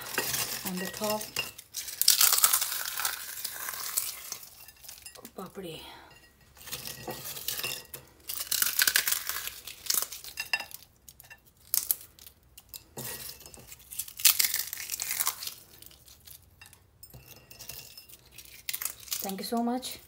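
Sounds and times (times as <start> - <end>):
crisp fried snack crackling: 0.0 - 5.3, 6.7 - 16.8, 17.6 - 20.0.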